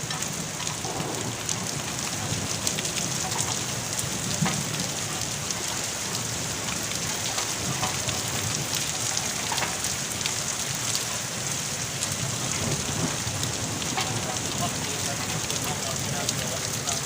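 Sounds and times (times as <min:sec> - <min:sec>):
rain drops tapping on surface: 0:00.0 - 0:17.0.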